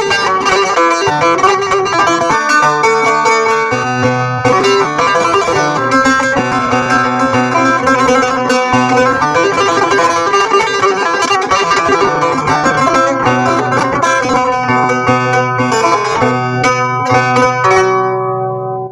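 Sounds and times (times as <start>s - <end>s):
plucked lute melody with drone: 0.0s - 18.9s.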